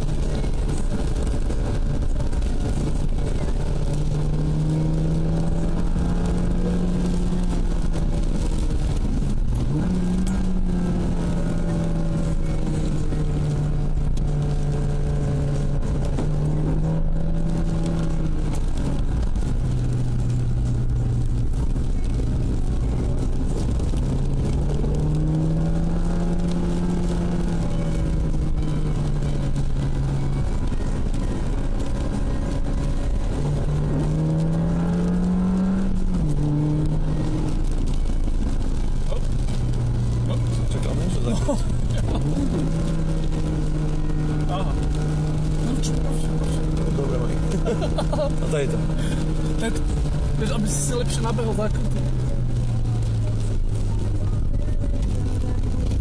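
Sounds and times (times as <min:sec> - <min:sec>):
car engine while driving: 0:00.0 - 0:56.0
road noise: 0:00.0 - 0:56.0.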